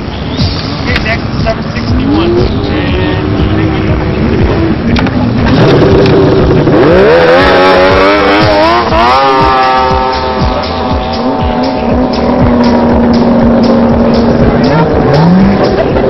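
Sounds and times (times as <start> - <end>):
snowmobile engine revving: 1.5 - 16.0.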